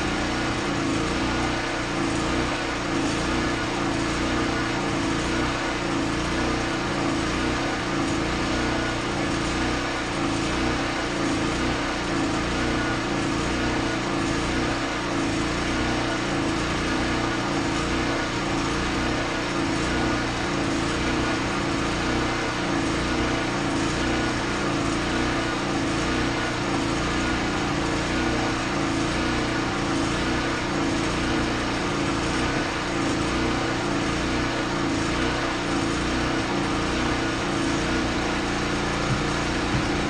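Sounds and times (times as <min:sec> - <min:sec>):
small engine running: 0:00.0 - 0:40.0.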